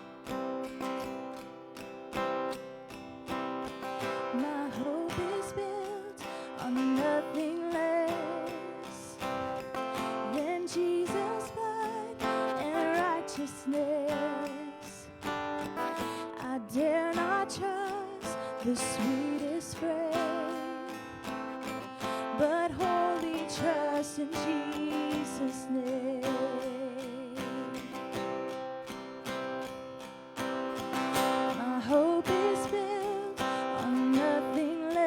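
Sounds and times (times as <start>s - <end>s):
strummed acoustic guitar: 0.0s - 35.0s
person singing with vibrato: 3.3s - 29.4s, 30.5s - 35.0s.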